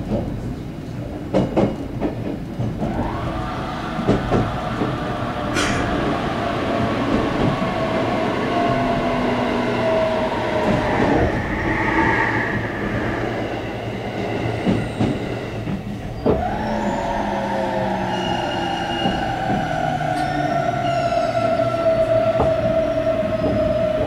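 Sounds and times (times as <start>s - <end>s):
passing train: 0.0s - 24.0s
train wheels on rails: 0.0s - 24.0s.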